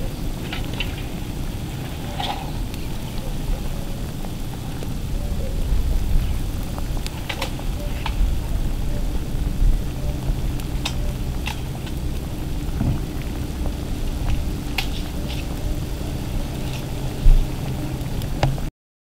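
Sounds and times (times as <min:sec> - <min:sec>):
water boiling with pops: 0:00.0 - 0:18.7.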